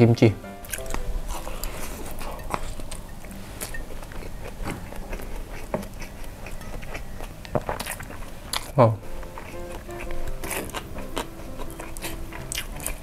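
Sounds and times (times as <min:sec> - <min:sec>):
wet mouth chewing: 0:00.6 - 0:13.0.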